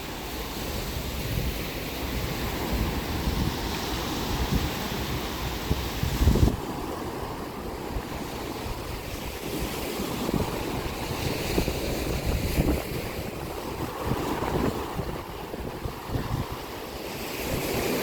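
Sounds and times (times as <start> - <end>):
ocean waves washing ashore: 0.0 - 18.0
wind buffeting microphone: 0.0 - 18.0.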